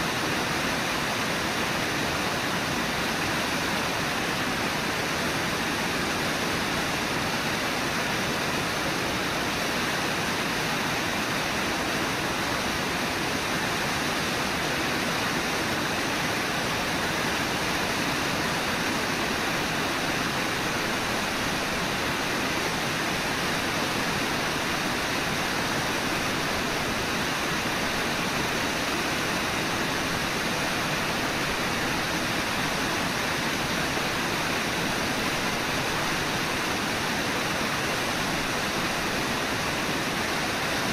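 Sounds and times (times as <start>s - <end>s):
waterfall and river rapids roaring: 0.0s - 40.9s.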